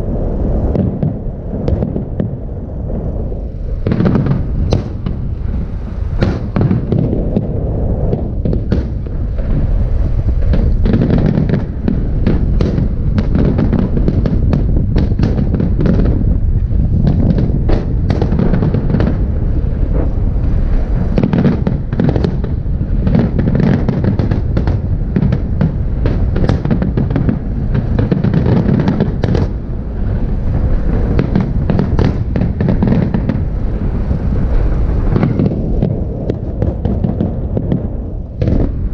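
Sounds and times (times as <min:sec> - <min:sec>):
fireworks crackling and popping: 0:00.0 - 0:38.9
low rumble: 0:00.0 - 0:38.9.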